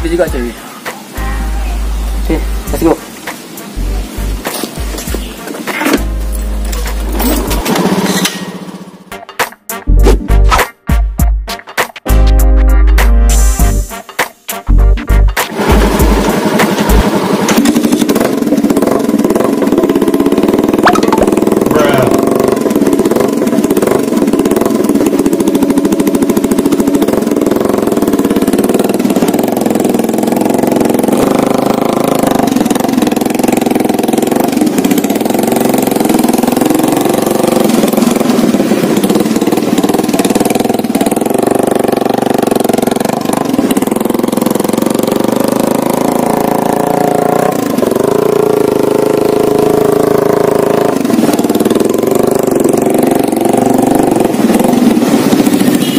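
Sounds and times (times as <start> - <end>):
motorcycle engine running: 0.0 - 9.3, 14.7 - 55.9.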